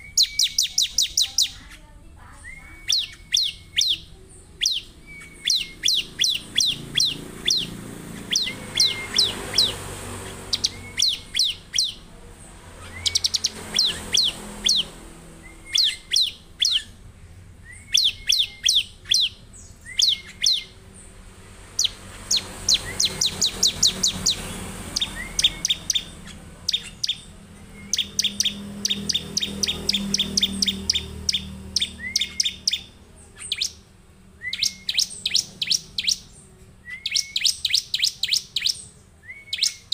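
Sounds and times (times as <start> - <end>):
bird singing high ticking notes: 0.0 - 39.9.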